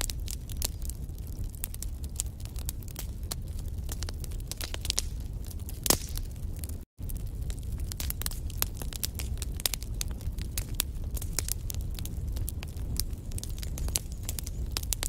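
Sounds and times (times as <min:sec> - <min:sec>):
log fire crackling: 0:00.0 - 0:15.0
low rumble of flames: 0:00.0 - 0:15.0.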